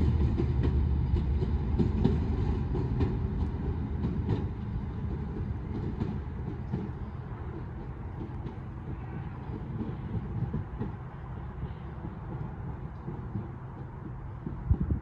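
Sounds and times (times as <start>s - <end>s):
locomotive low rumble: 0.0s - 15.0s
train wheels clicking over rail joints: 0.0s - 15.0s.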